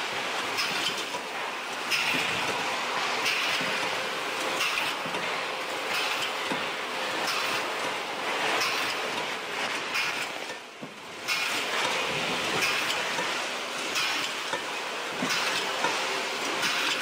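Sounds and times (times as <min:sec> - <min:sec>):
machinery clatter and hiss: 0:00.0 - 0:17.0.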